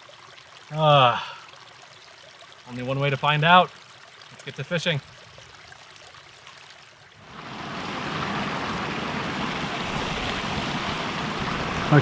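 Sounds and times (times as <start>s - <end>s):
creek splashing over rocks: 0.0s - 12.0s.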